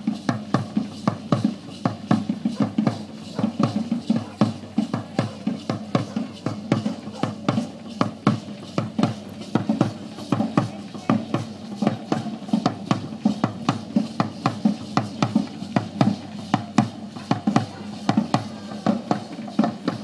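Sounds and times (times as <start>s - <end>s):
drums beating fast rhythm: 0.0s - 20.0s.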